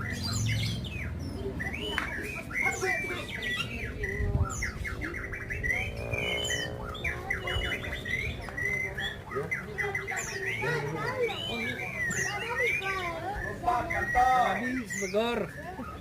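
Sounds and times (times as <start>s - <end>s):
birds twittering trills and chirps: 0.0s - 16.0s.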